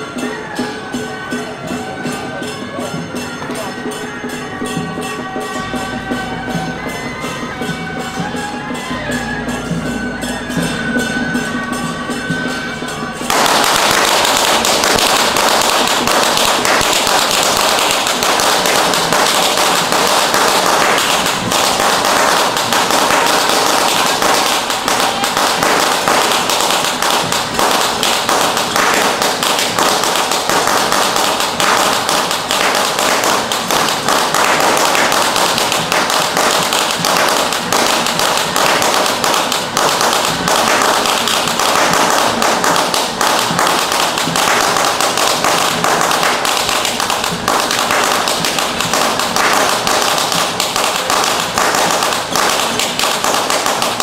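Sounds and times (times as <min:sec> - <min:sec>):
firecrackers popping: 0:00.0 - 0:54.0.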